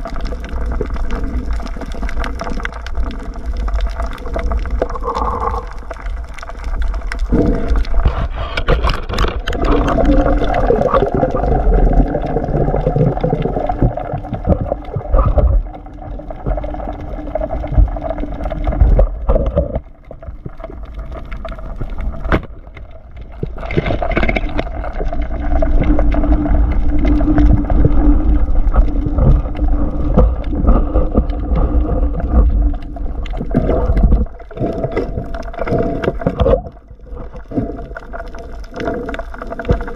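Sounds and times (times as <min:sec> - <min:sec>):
underwater low rumble: 0:00.0 - 0:39.9
water gurgling: 0:00.0 - 0:39.9.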